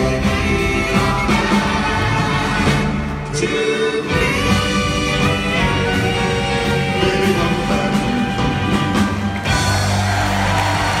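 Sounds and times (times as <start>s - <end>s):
bass guitar: 0.0s - 11.0s
drums: 0.0s - 11.0s
saxophone: 0.0s - 11.0s
vocal group singing doo-wop: 0.0s - 11.0s.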